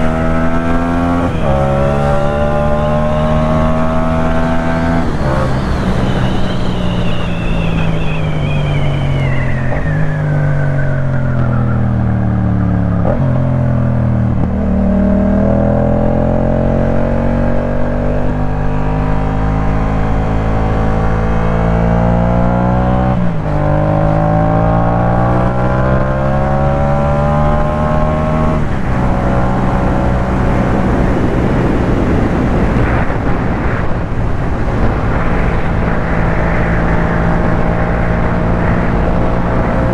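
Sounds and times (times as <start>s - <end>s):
high whine: 0.0s - 39.9s
motorcycle engine revving: 0.0s - 39.9s.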